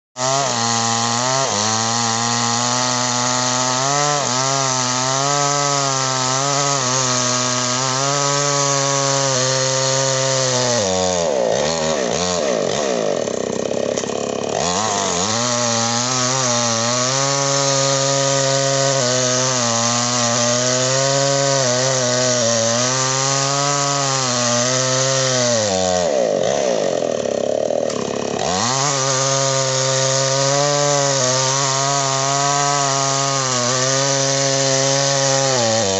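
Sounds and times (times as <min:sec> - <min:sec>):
chainsaw running at high speed: 0:00.2 - 0:35.9.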